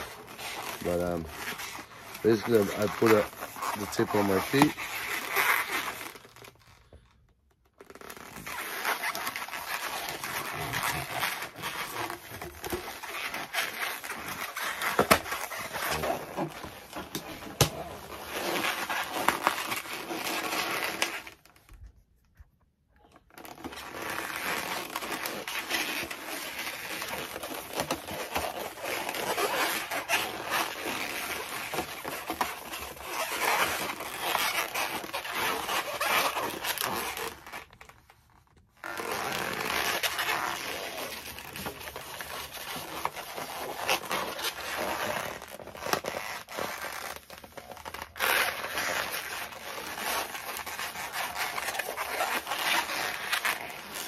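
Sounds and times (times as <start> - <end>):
balloons squeaking and creaking: 0.0 - 54.0.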